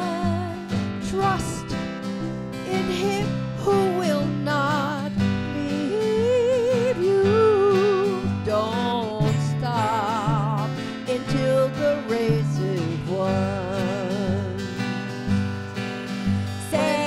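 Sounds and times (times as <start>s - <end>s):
women singing with vibrato: 0.0s - 2.0s, 2.6s - 14.8s, 16.3s - 17.0s
strummed acoustic guitar: 0.0s - 17.0s.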